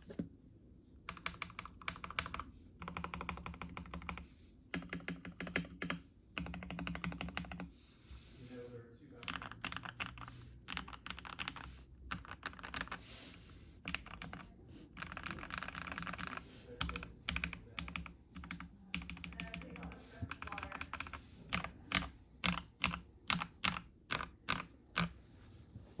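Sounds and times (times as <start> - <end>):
mechanical keyboard typing: 1.1 - 7.7, 9.2 - 13.0, 13.8 - 25.2.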